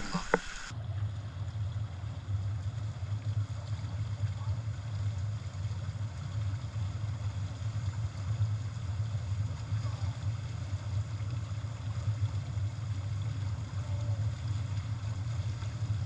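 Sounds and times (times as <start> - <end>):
muffled bubbling pool water: 0.0 - 16.0.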